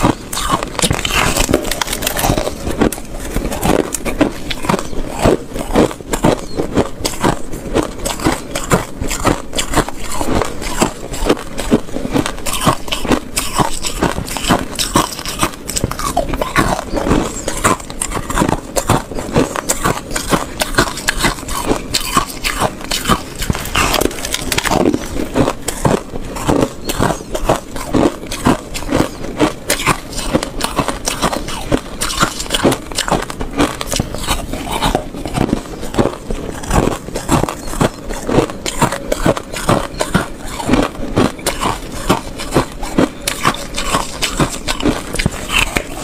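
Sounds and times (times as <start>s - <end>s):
chewing shaved ice: 0.0s - 46.0s.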